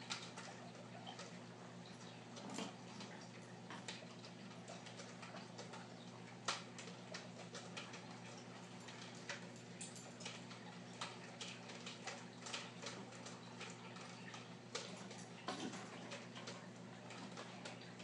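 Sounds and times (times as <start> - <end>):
aquarium pump hum: 0.0 - 18.0
small clicks and ticks: 0.0 - 18.0.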